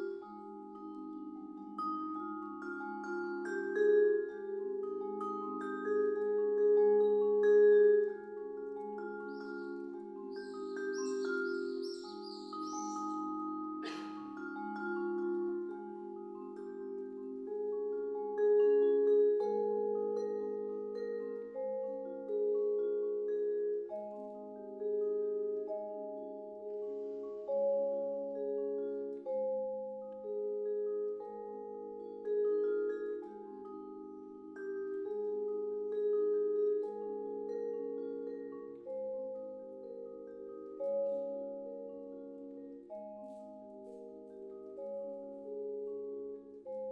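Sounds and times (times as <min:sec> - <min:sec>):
vibraphone playing ballad chords: 0:00.0 - 0:46.9.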